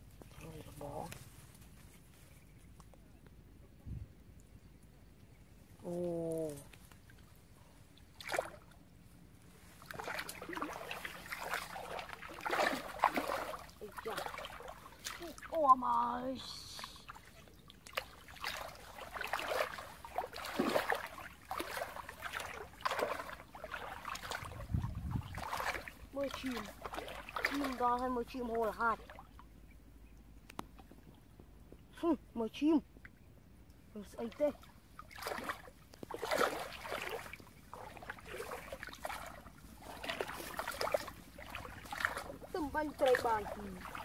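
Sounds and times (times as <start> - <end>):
person wading through muddy water: 0.0 - 2.7, 5.6 - 30.0, 33.8 - 44.0.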